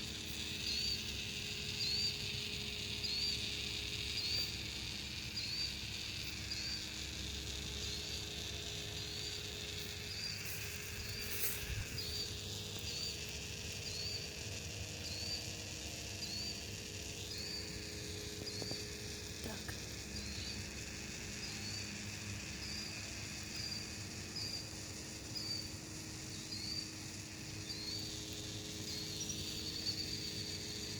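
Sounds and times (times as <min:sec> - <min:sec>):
steady hiss: 0:00.0 - 0:30.9.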